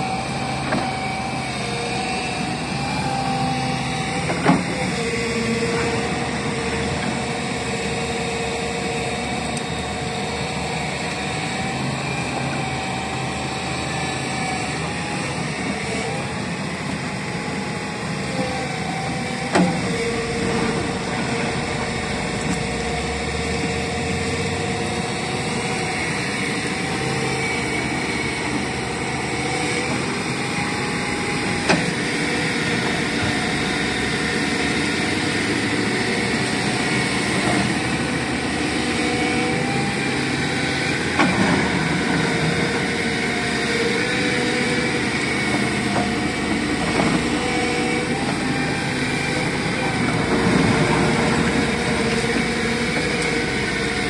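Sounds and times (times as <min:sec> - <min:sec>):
excavator diesel engine running: 0:00.0 - 0:54.0
wavering engine whine: 0:00.0 - 0:54.0.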